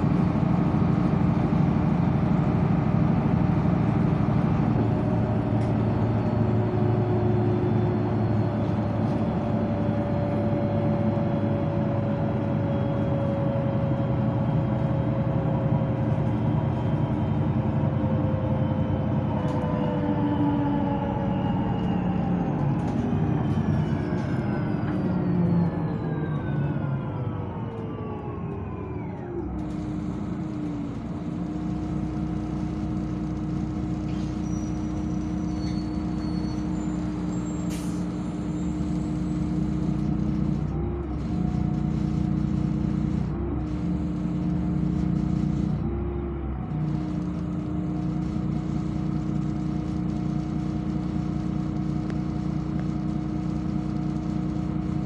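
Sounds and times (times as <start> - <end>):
bus engine hum and rumble: 0.0 - 55.0.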